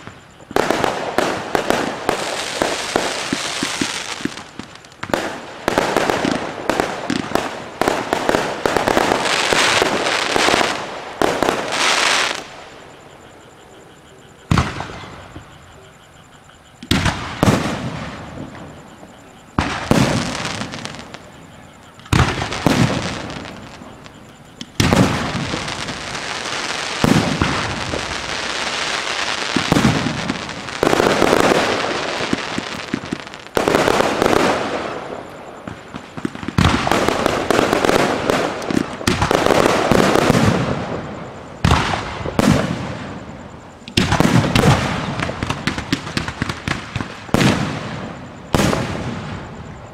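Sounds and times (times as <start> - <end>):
fireworks crackling: 0.0 - 13.3, 16.7 - 49.9
fireworks bursting: 0.0 - 49.9.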